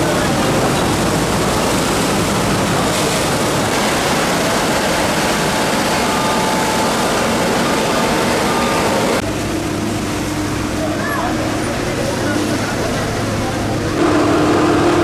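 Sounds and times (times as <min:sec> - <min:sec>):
heavy machine engine running: 0:00.0 - 0:15.0
rushing water: 0:00.0 - 0:15.0.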